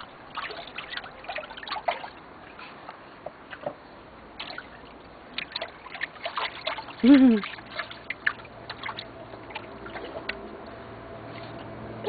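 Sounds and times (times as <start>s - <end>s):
water splashing and dripping: 0.0s - 11.7s.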